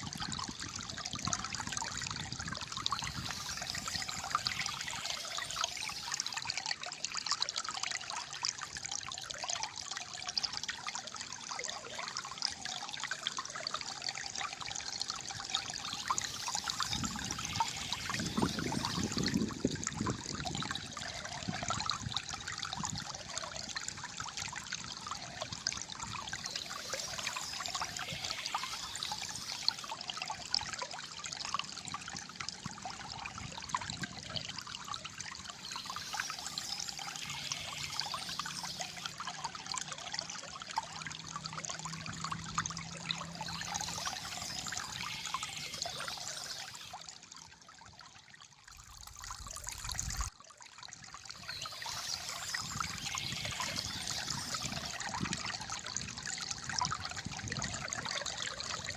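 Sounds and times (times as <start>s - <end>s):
water trickling and gurgling: 0.0s - 58.9s.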